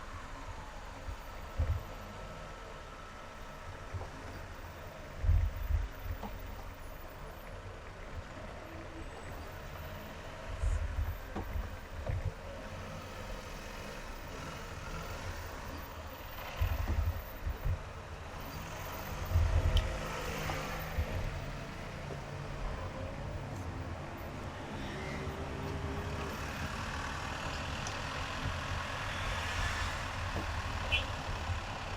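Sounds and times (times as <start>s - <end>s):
road and tyre noise: 0.0s - 31.9s
vehicles passing: 0.0s - 31.9s.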